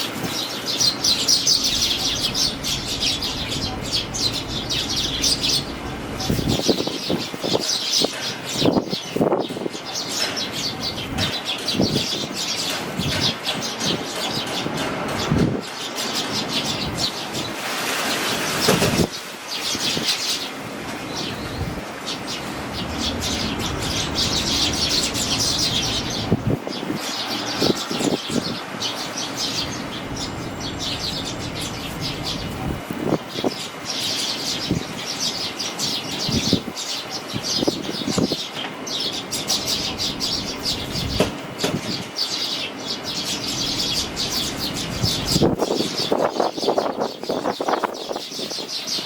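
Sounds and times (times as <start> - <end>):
wind rumbling on microphone: 0.0 - 10.0, 10.6 - 15.8, 16.6 - 33.7, 34.5 - 35.2, 36.0 - 38.5, 39.5 - 42.2, 43.4 - 49.0
fledglings chirping: 0.0 - 17.6, 18.6 - 49.0.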